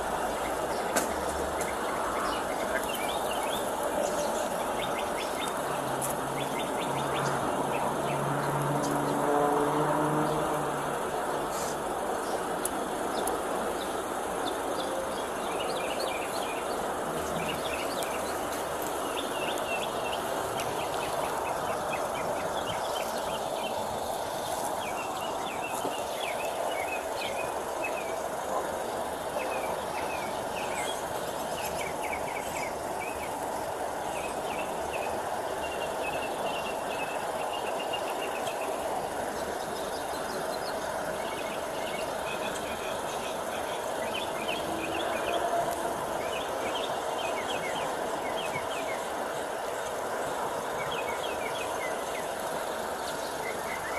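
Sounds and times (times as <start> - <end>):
small birds chirping: 0.0 - 9.2, 11.4 - 53.9
steady rushing noise: 0.0 - 53.9.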